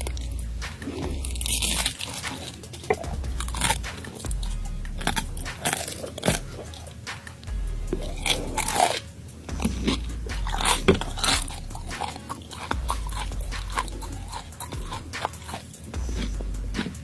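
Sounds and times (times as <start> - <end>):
crisp crunching and chewing: 0.0 - 7.0, 7.9 - 17.0.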